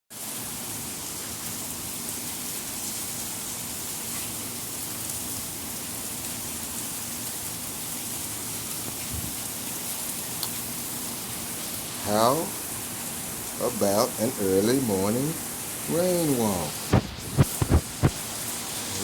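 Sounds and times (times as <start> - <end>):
rain hissing on surfaces: 0.1 - 19.0.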